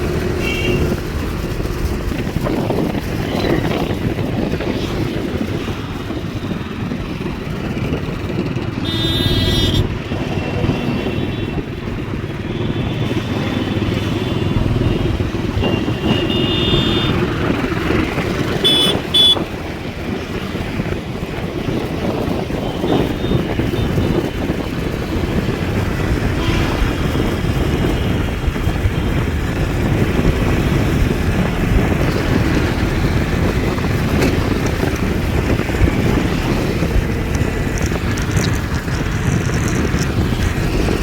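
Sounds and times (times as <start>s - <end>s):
motorcycles running: 0.0s - 41.0s
street traffic: 0.0s - 41.0s.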